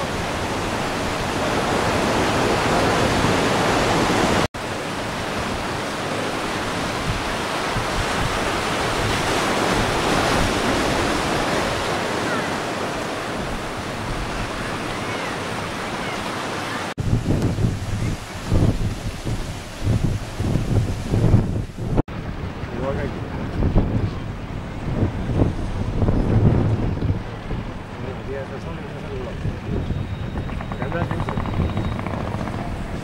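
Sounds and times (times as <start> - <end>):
surf breaking on shore: 0.0 - 33.0.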